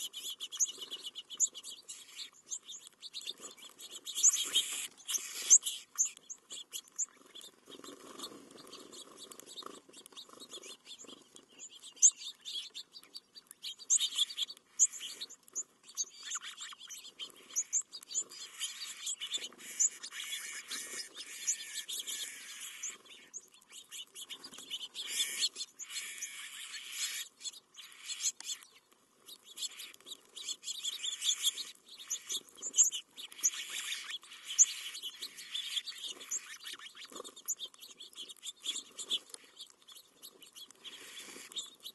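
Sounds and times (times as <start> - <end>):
birds chirping: 0.0 - 41.9
birds pecking and scratching: 0.0 - 41.9.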